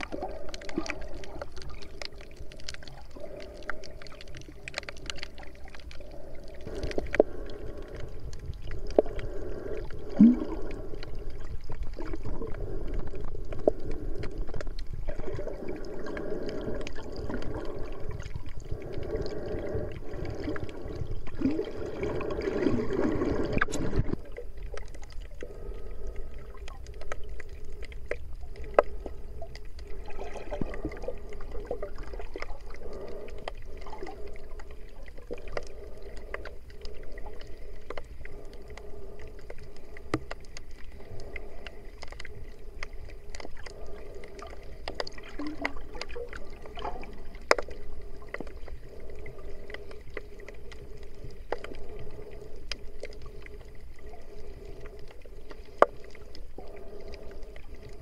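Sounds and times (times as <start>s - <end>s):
muffled underwater water wash: 0.0s - 58.0s.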